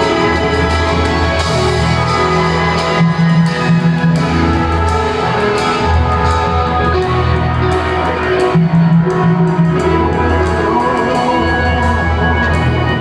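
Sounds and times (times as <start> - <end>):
loud live electronic music: 0.0 - 13.0.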